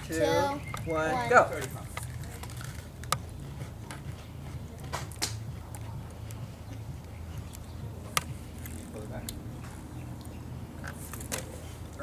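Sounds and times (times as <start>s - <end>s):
people chewing cookies: 0.0s - 12.0s.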